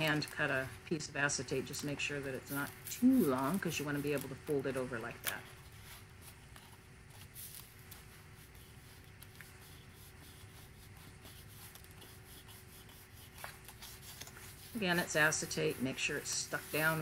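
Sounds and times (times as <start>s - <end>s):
paper card rustling and rubbing: 1.5s - 17.0s.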